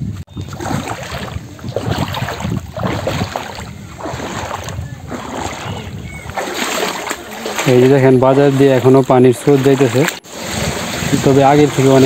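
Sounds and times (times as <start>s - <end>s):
bare feet wading through water: 0.3s - 12.0s.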